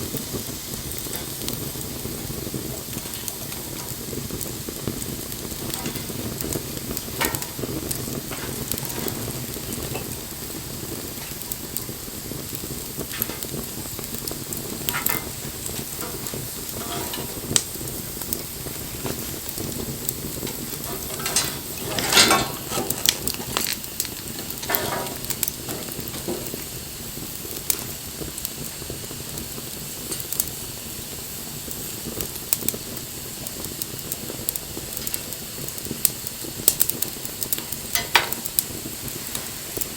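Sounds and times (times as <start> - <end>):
fire hissing: 0.0 - 39.9
wood fire crackling and popping: 0.0 - 39.9.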